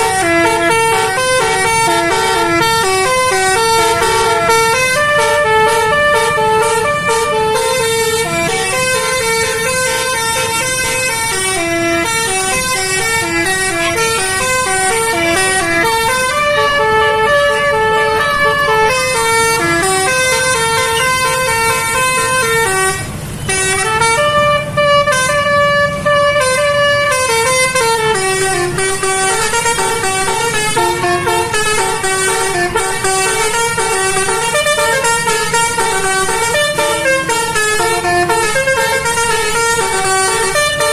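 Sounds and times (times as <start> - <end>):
bus air horn melody: 0.0 - 40.9.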